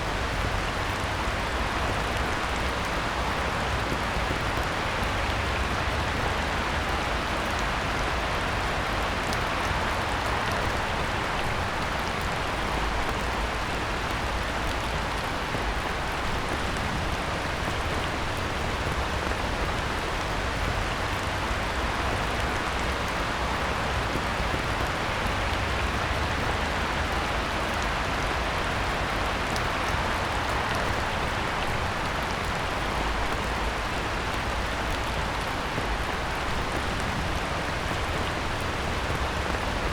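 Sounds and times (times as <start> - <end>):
heavy rain on pond: 0.0 - 39.9.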